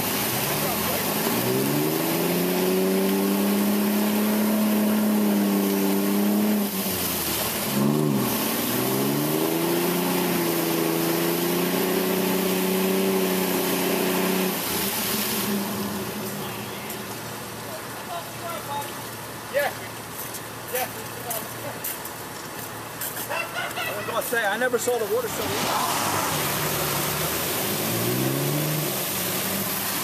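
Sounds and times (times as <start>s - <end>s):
truck engine revving: 0.0s - 19.8s, 24.2s - 30.0s
wheels spinning in mud and water: 0.0s - 30.0s.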